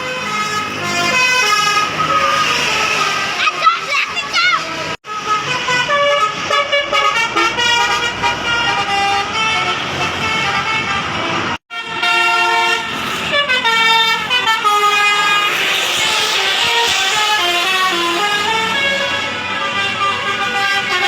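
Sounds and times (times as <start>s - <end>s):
bus horn playing a melody: 0.0s - 3.4s, 4.6s - 21.0s.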